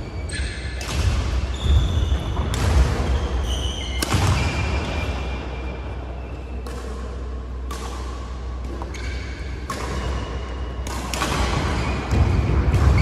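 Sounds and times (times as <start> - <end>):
indoor hall hum: 0.0 - 13.0.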